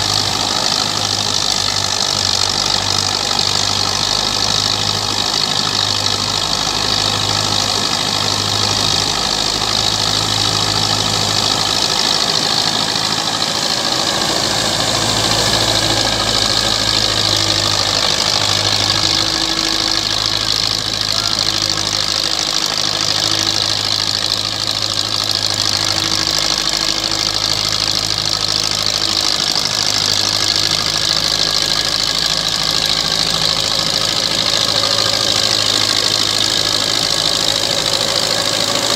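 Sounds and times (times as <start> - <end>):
threshing machine rushing hiss: 0.0 - 38.9
tractor diesel engine under load: 0.0 - 38.9.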